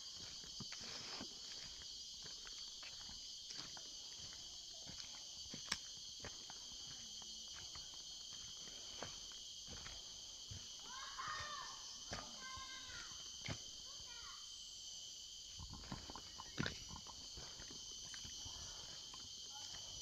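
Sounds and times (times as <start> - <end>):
footsteps on forest floor: 0.0 - 14.3, 15.5 - 20.0
insects chorus: 0.0 - 20.0.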